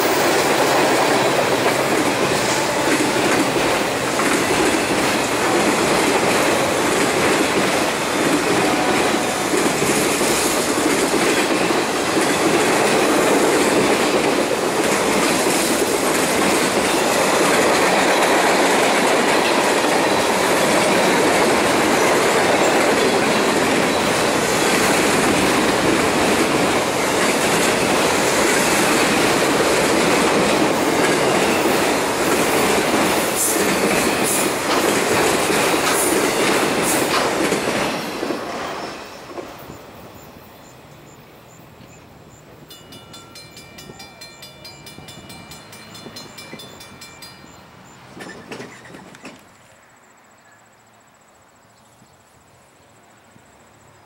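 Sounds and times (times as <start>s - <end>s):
rail-joint clicks: 0.0s - 39.8s, 41.8s - 49.6s
train wheels rumbling on rails: 0.0s - 40.8s, 41.7s - 49.6s.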